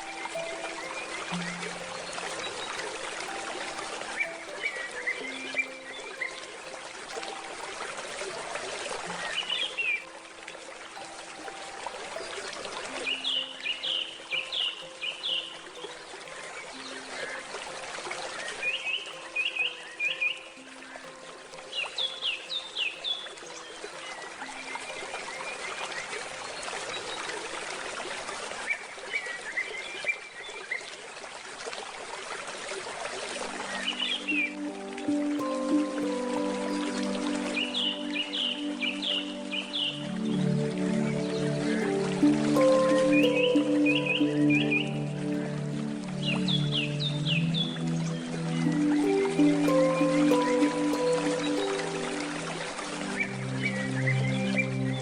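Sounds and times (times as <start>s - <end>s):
birds chirping: 0.0s - 27.6s, 33.2s - 55.0s
handpan notes: 0.0s - 28.0s, 32.9s - 55.0s
stream trickling and splashing: 0.0s - 55.0s.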